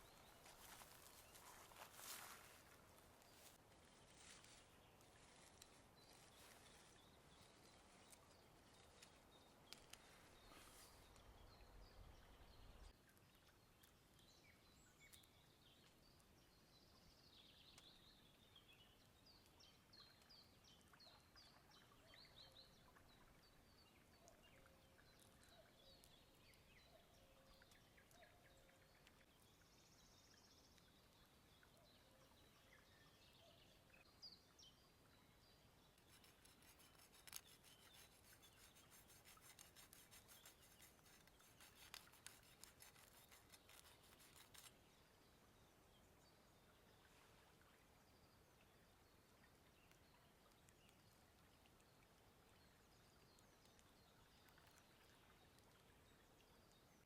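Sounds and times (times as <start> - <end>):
faint birdsong chirps: 0.0 - 57.0.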